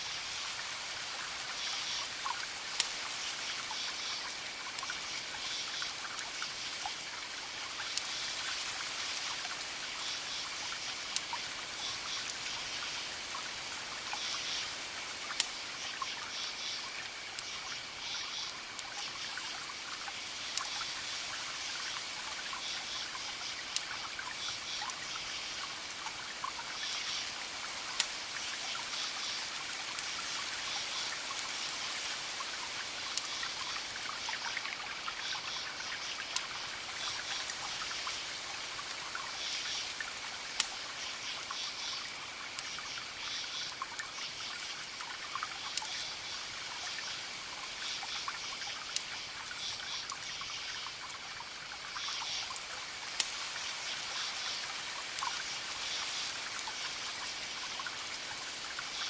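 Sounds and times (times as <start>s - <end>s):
campfire crackling: 0.0s - 59.0s
crickets chirping: 1.2s - 59.0s.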